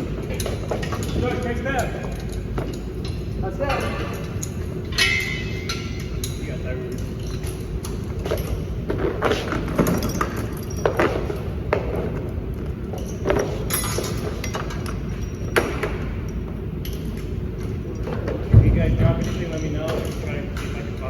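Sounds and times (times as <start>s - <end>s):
sharp knocks and clinks: 0.0s - 12.0s, 12.9s - 21.0s.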